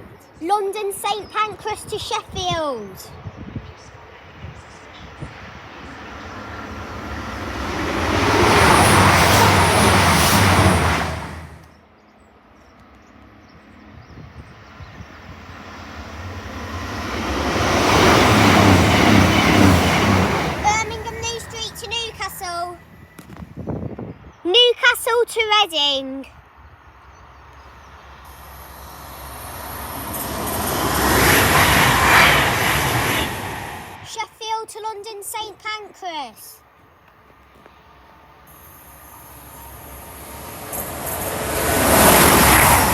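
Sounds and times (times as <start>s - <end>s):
diesel train passing at speed: 1.1s - 24.7s, 26.4s - 35.7s, 36.6s - 42.9s.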